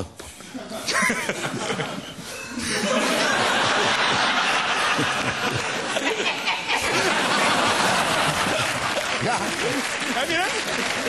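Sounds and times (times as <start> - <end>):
studio audience laughing: 0.6 - 11.0.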